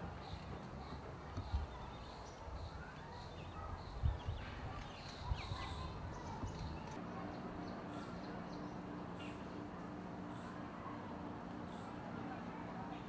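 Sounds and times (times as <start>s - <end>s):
small birds chirping: 0.1s - 10.7s.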